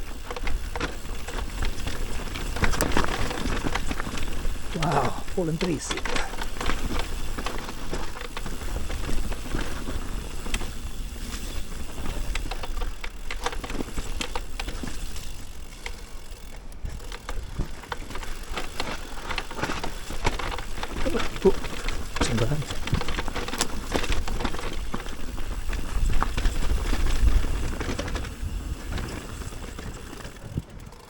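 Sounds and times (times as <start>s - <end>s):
bike rattling and knocking: 0.0s - 31.0s
bike tyres on dirt trail: 0.0s - 31.0s.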